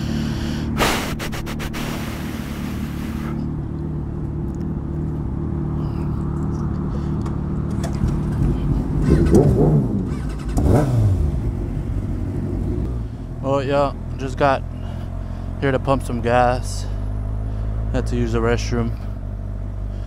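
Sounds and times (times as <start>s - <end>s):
motorcycle engine idling: 0.0s - 9.4s, 11.2s - 20.0s.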